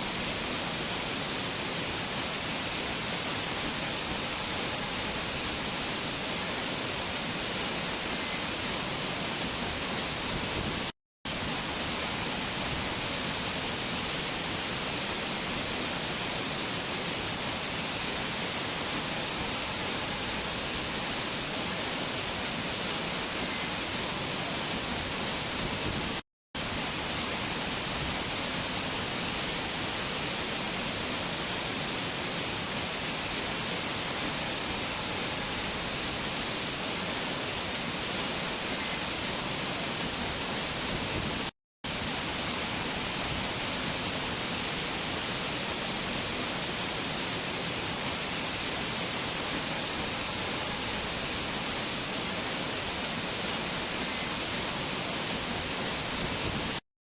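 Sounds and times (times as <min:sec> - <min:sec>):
waterfall rushing: 0:00.0 - 0:56.8.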